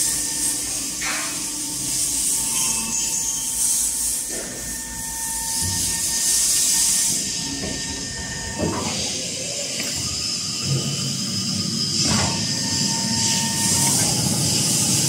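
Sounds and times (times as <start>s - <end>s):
hydraulic hiss: 0.0s - 15.0s
hydraulic pump whining: 0.0s - 15.0s.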